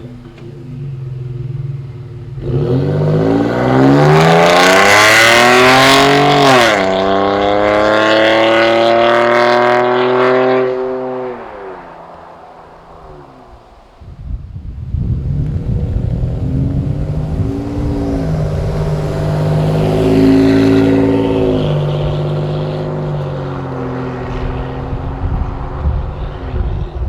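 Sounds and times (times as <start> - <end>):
pickup truck engine accelerating: 0.0 - 14.0, 14.9 - 27.0.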